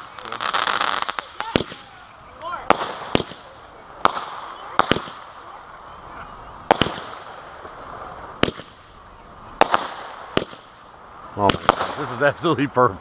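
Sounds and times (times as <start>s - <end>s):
firework shells bursting with bangs: 0.0s - 5.5s, 6.6s - 12.2s
fireworks crackling hiss: 0.0s - 13.0s.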